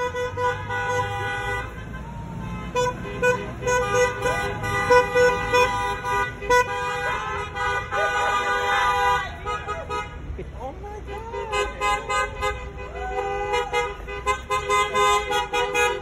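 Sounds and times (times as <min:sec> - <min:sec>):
car horns honking: 0:00.0 - 0:16.0.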